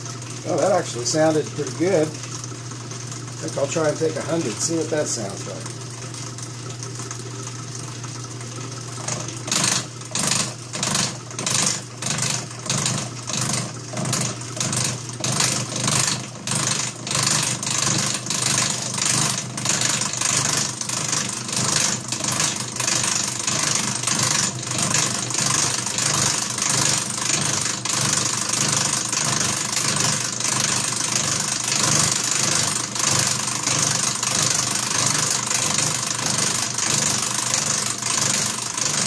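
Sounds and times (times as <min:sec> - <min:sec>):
milling machine motor hum: 0:00.0 - 0:39.0.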